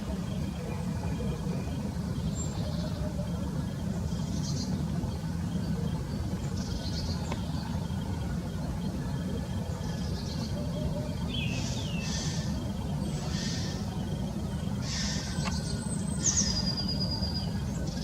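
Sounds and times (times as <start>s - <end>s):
faint bird chirps: 0.2s - 18.0s.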